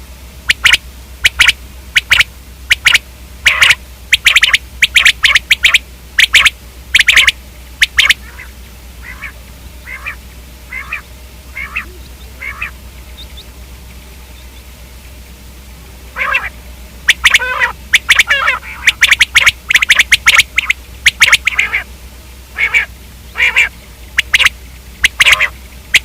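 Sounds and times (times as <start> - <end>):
quail calling: 0.4 - 15.2, 16.1 - 21.9, 22.5 - 26.0.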